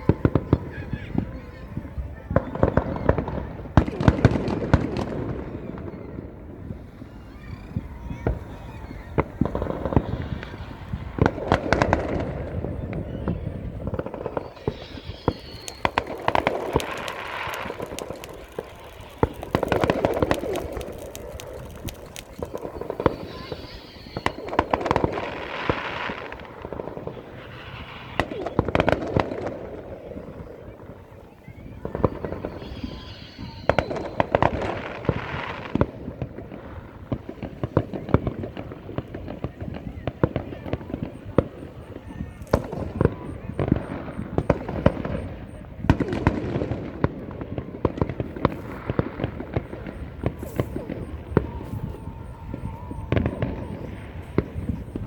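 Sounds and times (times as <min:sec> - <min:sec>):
fireworks banging: 0:00.0 - 0:55.0
fireworks crackling: 0:00.0 - 0:55.0.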